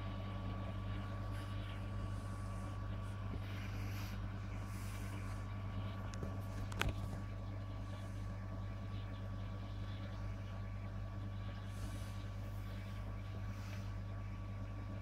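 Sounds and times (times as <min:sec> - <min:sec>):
aquarium equipment hum: 0:00.0 - 0:15.0.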